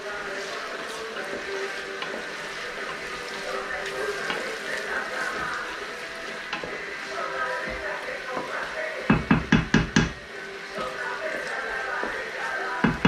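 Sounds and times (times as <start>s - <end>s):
spatula stirring in a pot: 0.0s - 13.0s
vegetables sizzling in oil: 0.0s - 13.0s.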